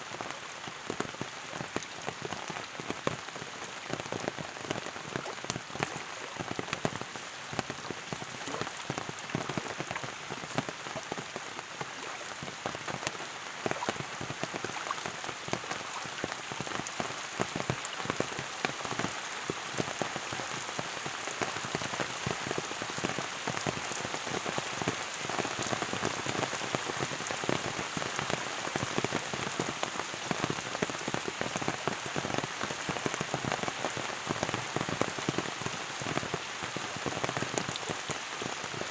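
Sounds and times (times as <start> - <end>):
rain falling: 0.0 - 38.9
raindrops pattering on surfaces: 0.0 - 38.9.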